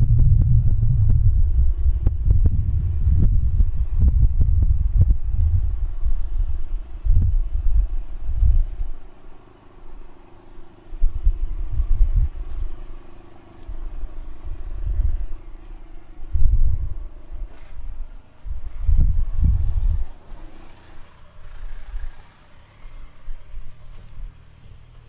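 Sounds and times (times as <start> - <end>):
faint steady hum: 0.0 - 25.0
wind rumbling on microphone: 0.0 - 25.0.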